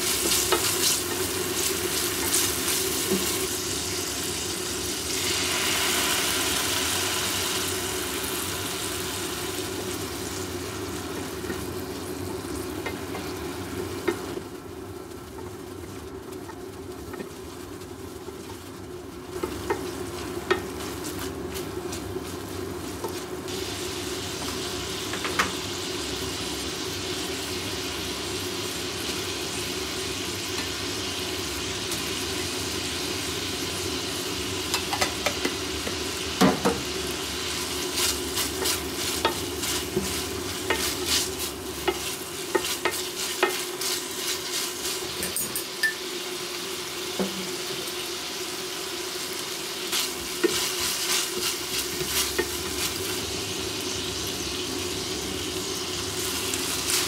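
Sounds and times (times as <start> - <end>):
food sizzling in frying pan: 0.0 - 57.0.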